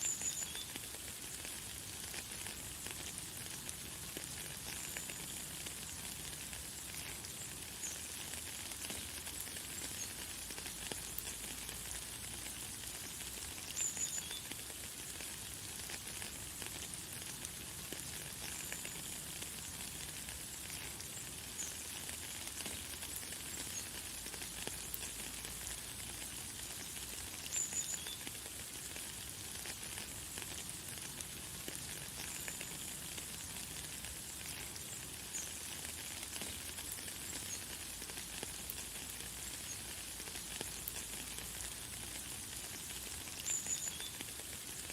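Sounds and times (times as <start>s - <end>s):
light rain hissing: 0.0s - 44.9s.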